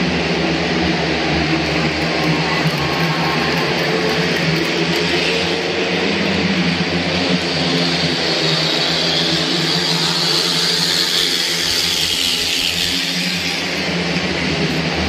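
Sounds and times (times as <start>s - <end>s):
motorcycle engines howling: 0.0s - 15.0s.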